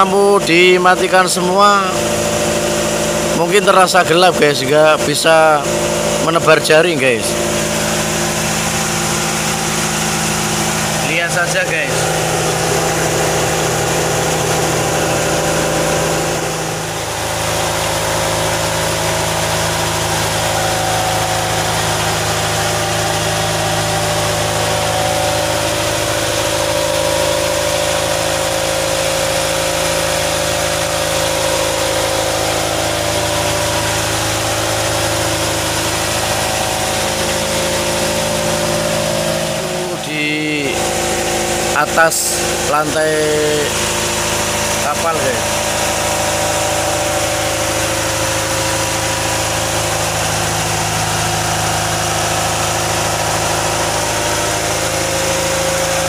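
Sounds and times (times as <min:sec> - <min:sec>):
boat diesel engine running: 0:00.0 - 0:56.0.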